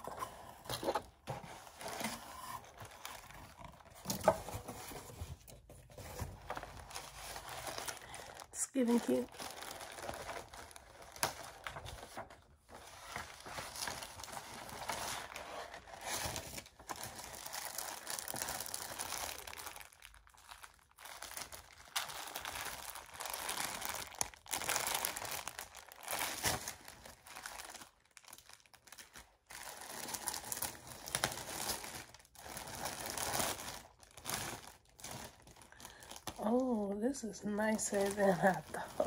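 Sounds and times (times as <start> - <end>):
plastic bag crinkling: 0.8 - 4.7, 6.4 - 39.0.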